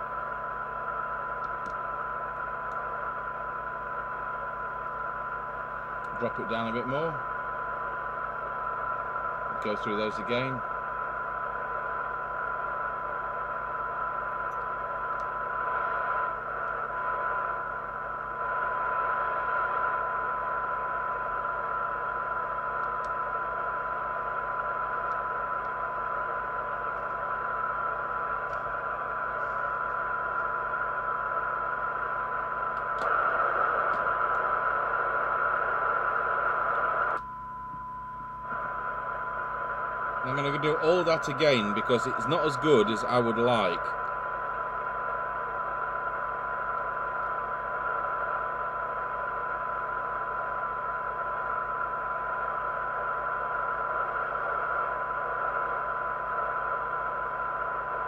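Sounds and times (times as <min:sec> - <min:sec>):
receiver hiss: 0:00.0 - 0:58.0
steady test tone: 0:00.0 - 0:58.0.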